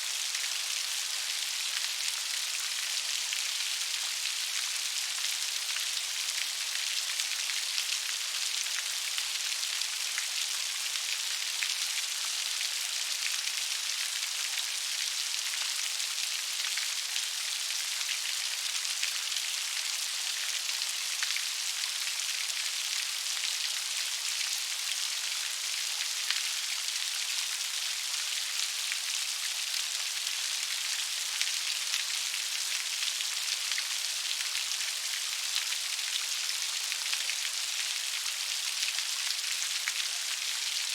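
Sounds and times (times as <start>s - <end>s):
gentle rain hiss: 0.0s - 40.9s.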